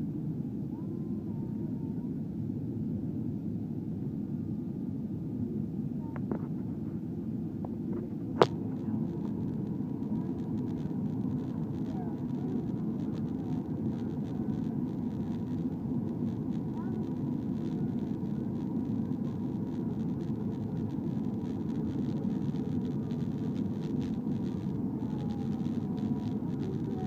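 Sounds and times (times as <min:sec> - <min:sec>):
airliner engines and airflow rumble: 0:00.0 - 0:27.0.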